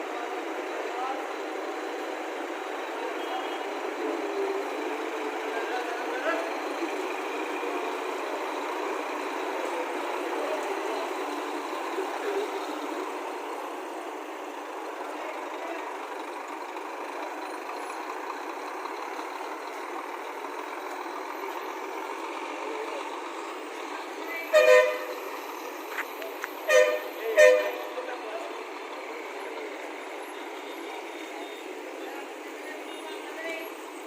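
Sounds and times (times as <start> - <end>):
bus diesel engine running: 0.0 - 34.0
vehicle noise: 0.0 - 34.0.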